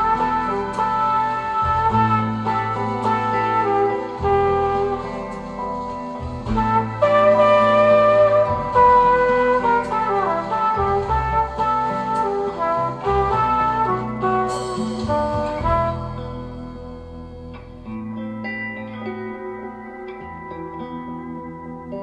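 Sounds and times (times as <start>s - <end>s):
jazz music over loudspeakers: 0.0s - 22.0s.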